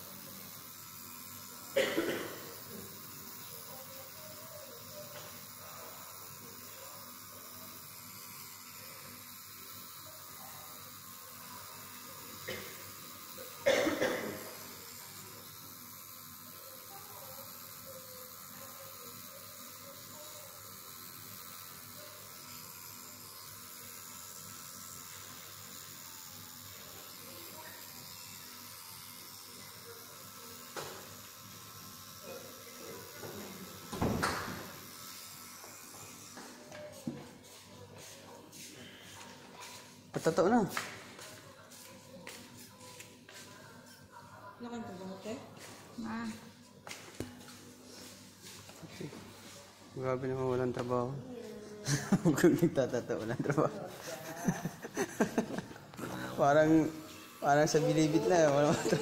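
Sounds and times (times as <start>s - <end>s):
tattoo machine buzzing: 0.0s - 59.0s.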